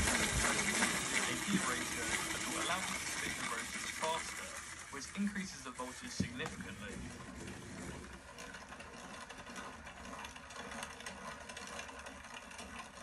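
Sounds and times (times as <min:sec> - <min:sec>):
hand-crank generator gears whirring: 0:00.0 - 0:13.0.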